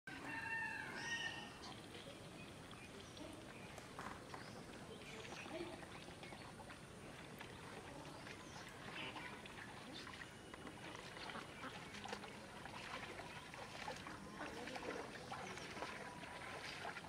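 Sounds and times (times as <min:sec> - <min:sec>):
faint outdoor ambience: 0:00.1 - 0:17.0.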